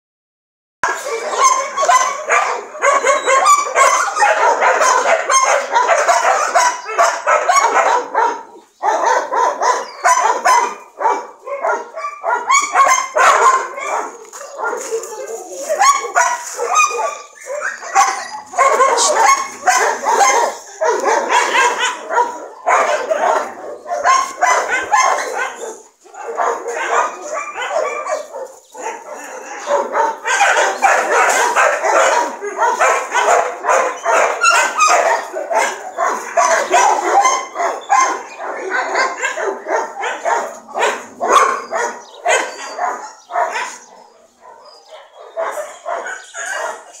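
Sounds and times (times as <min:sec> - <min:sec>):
dogs barking and yipping: 0:00.8 - 0:47.0.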